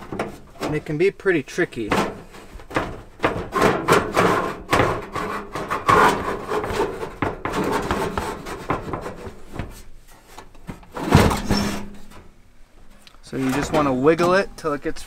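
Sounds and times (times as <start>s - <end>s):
metal unit scraping and knocking: 1.8s - 14.7s.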